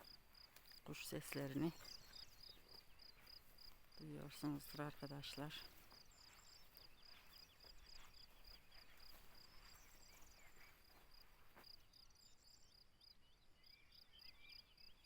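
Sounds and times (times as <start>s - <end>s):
birds chirping and trilling: 0.8s - 15.0s.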